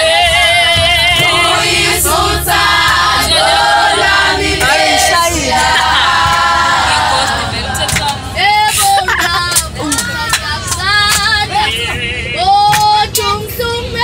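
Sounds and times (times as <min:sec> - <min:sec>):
group of voices singing: 0:00.0 - 0:12.1.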